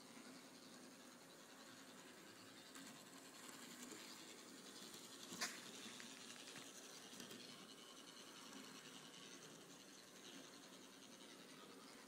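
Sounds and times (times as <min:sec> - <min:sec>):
model trolley running on track: 0:00.0 - 0:12.0.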